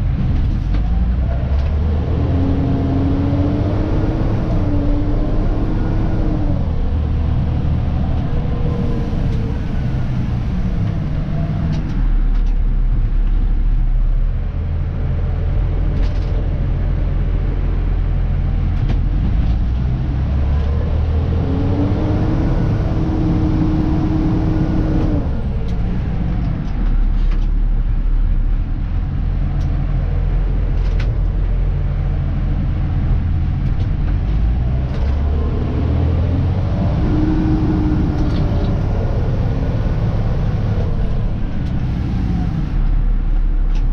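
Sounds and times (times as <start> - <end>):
rising whine: 0.0 - 43.9
truck diesel engine running: 0.0 - 43.9.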